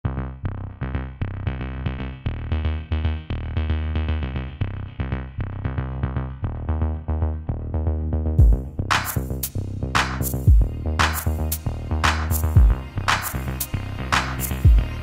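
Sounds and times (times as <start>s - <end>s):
electronic music with deep bass: 0.0s - 15.0s.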